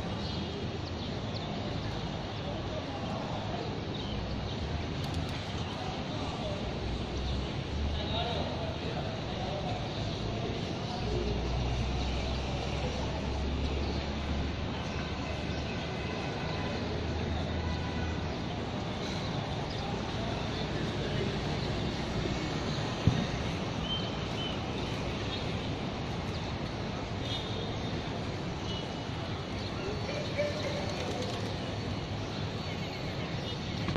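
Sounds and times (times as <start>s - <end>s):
distant traffic: 0.0s - 33.9s.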